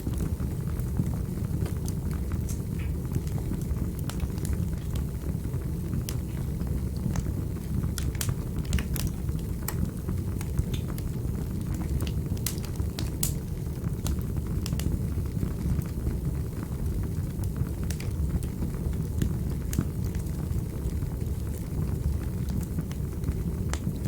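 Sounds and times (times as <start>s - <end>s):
fire flames rumbling: 0.0s - 24.0s
wood fire crackling and popping: 0.0s - 24.0s.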